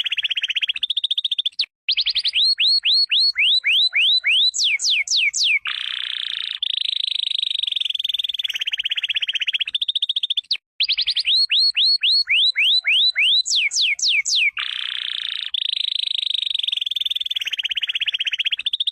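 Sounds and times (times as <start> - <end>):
canary singing trills: 0.0 - 18.9.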